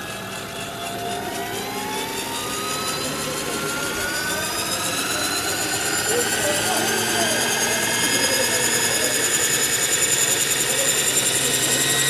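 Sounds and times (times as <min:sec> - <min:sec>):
model helicopter whine: 0:00.0 - 0:12.0.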